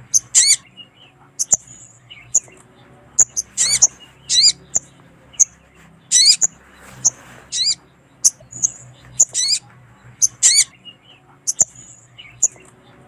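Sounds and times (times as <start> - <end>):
sharp high bird chips: 0.0 - 2.6, 3.2 - 12.7
bird calling with wavering notes: 0.0 - 13.0.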